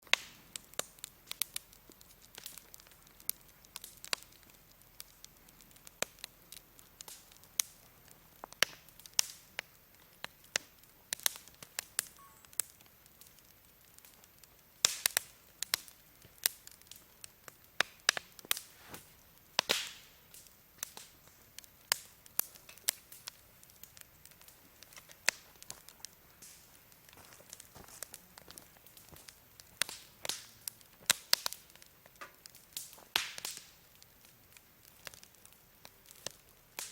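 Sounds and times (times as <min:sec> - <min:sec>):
campfire crackling and popping: 0:00.0 - 0:36.9
faint fire hiss: 0:00.0 - 0:36.9.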